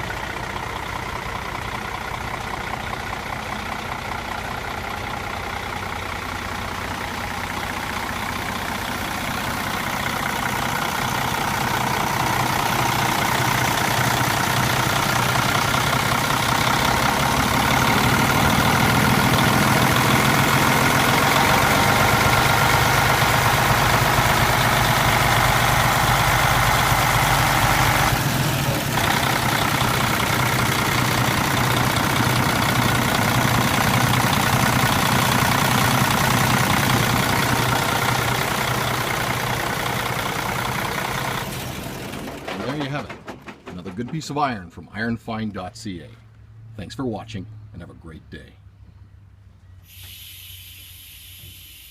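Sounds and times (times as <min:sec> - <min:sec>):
diesel truck engine idling: 0:00.0 - 0:46.8.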